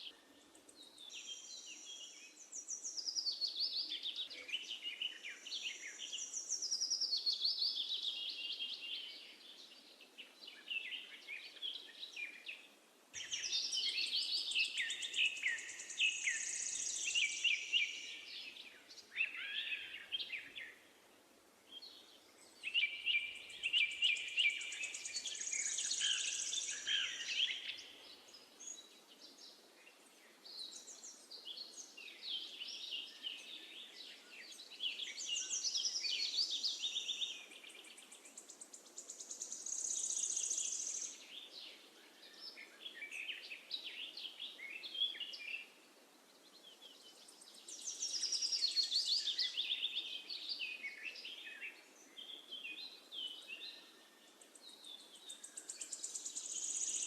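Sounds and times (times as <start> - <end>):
faint steady hiss: 0.0 - 57.0
birds chirping and trilling: 0.1 - 20.9, 21.7 - 57.0.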